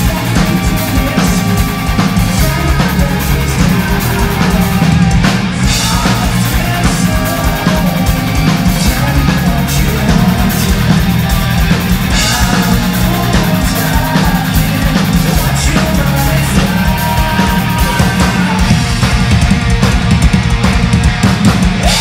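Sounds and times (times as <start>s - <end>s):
person singing: 0.0s - 19.0s
hard rock band playing: 0.0s - 22.0s.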